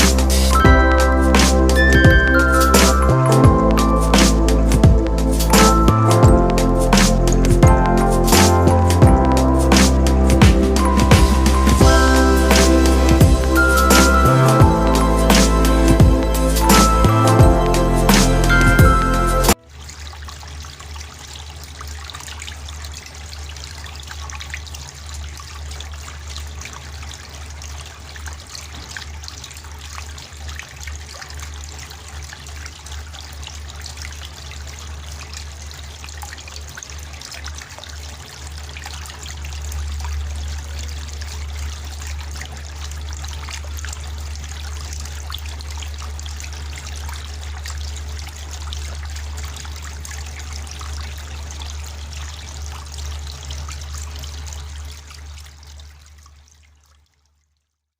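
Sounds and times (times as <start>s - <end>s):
water trickling down fountain: 0.0s - 57.9s.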